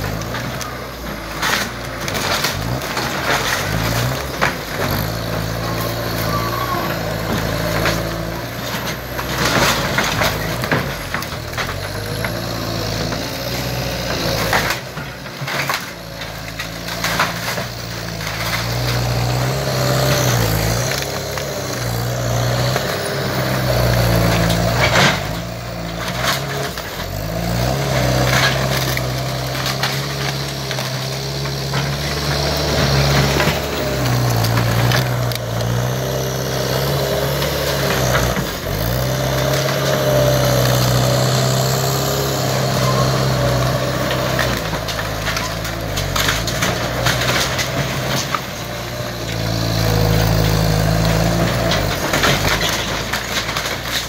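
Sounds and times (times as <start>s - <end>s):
demolition debris crunching: 0.0s - 54.0s
skid steer engine under load: 0.0s - 54.0s.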